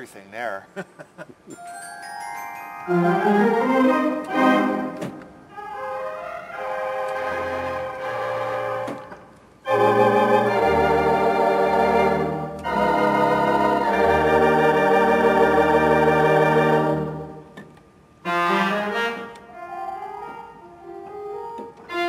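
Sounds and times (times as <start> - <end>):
pipe organ chords: 1.5 - 17.6, 18.2 - 22.0.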